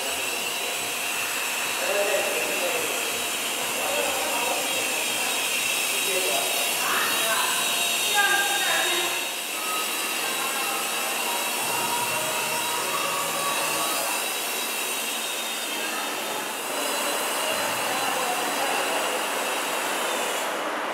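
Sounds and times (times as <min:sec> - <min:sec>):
toy helicopter motors whirring: 0:00.0 - 0:20.6.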